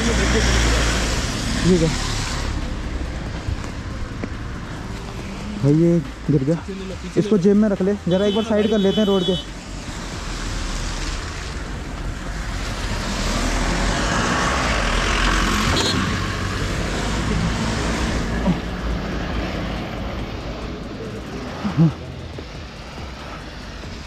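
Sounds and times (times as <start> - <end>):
road vehicle rumble: 0.0 - 24.0.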